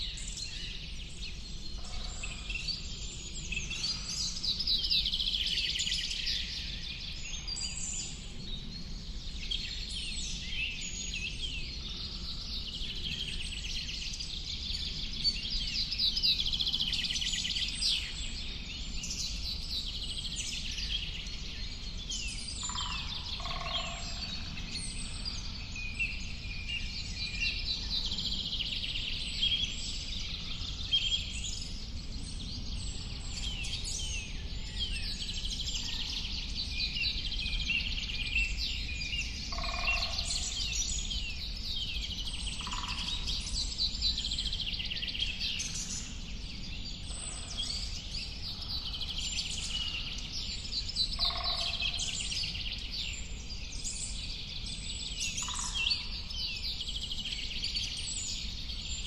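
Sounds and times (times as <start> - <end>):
birds chirping and trilling: 9.6 - 59.0.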